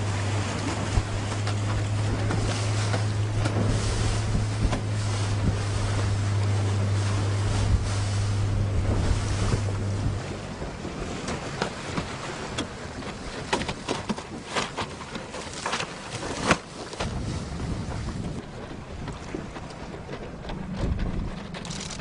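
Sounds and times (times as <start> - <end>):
wind buffeting microphone: 0.0 - 13.4, 16.8 - 22.0
rushing splashing water: 0.0 - 22.0.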